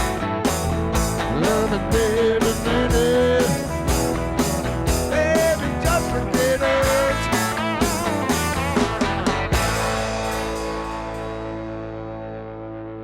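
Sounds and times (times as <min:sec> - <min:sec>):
steady drum beat: 0:00.0 - 0:11.2
bass: 0:00.0 - 0:13.0
lead guitar with bending notes: 0:00.0 - 0:13.0.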